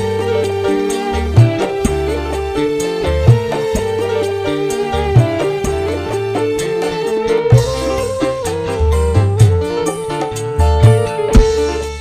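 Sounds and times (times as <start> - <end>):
held melody line: 0.0 - 12.0
pulsing bass line: 0.0 - 12.0.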